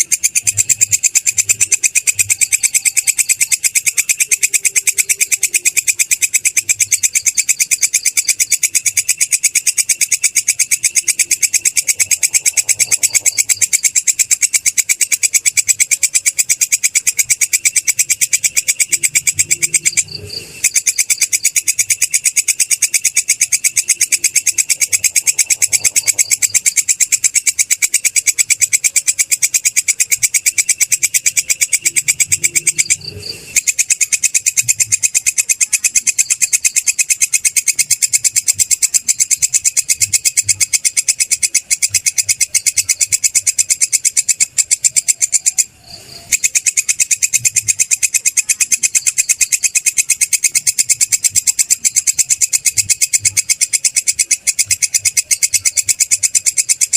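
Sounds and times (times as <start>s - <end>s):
katydid buzzing trill: 0.0s - 56.9s.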